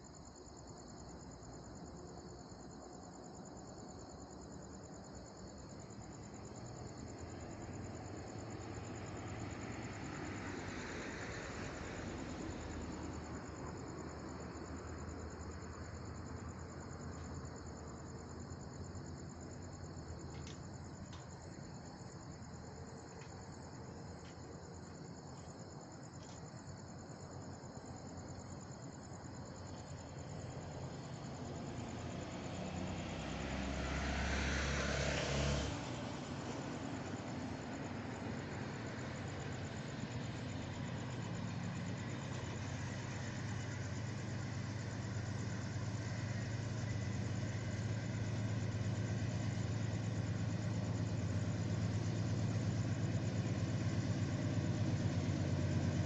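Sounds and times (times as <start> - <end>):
insects chirping faintly: 0.0 - 56.0.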